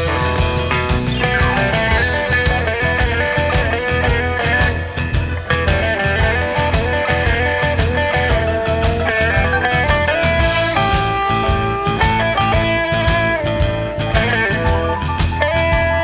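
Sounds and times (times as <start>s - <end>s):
bass guitar: 0.0s - 16.0s
electric guitar bending notes: 0.0s - 16.0s
steady drum beat: 0.0s - 16.0s.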